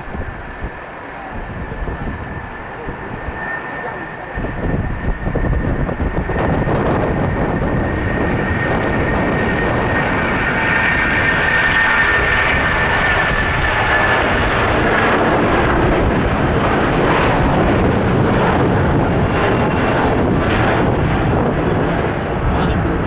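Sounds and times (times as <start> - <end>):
jet engines at takeoff power: 0.0 - 23.0.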